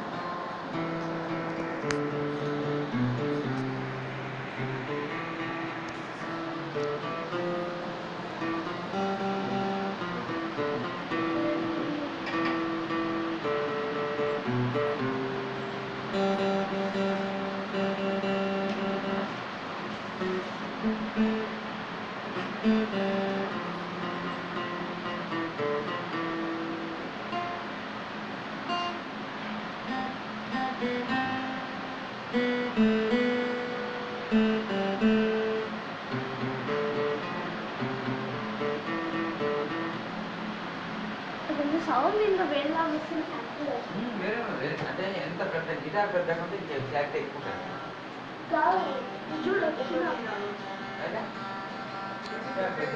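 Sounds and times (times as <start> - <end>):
acoustic guitar played slowly: 0.0 - 44.1, 45.7 - 52.9.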